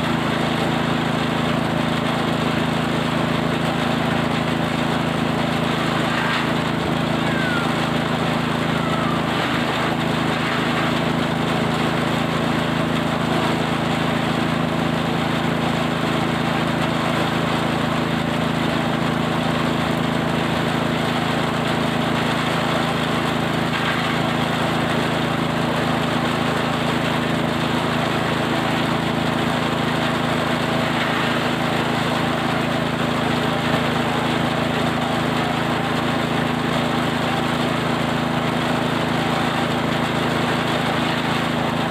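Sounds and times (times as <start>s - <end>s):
small engine droning steadily: 0.0s - 41.9s.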